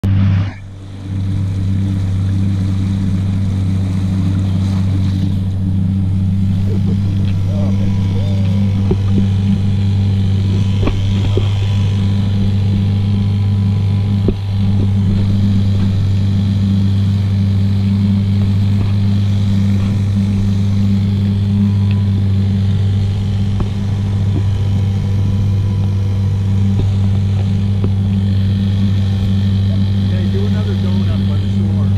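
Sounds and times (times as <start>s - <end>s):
outboard motor drone: 0.0s - 31.9s.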